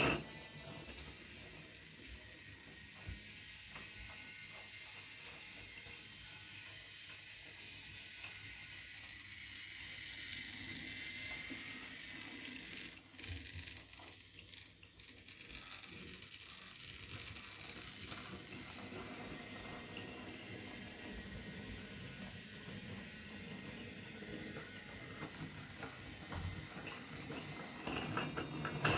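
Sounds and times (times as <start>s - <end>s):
toy train motor whirring: 0.0s - 28.9s.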